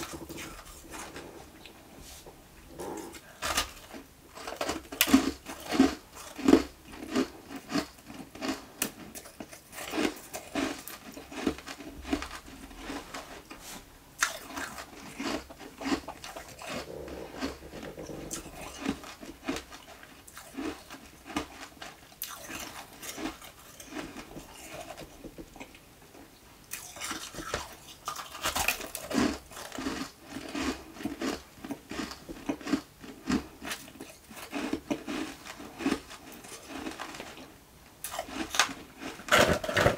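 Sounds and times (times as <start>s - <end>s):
chewing crunchy ice: 0.0s - 1.8s, 2.7s - 13.5s, 14.2s - 25.8s, 26.7s - 39.9s.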